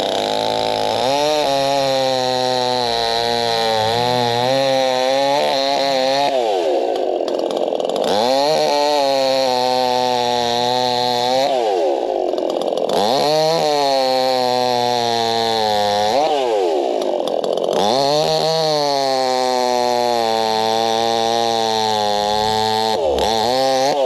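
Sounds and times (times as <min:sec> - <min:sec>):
chainsaw cutting: 0:00.0 - 0:24.0.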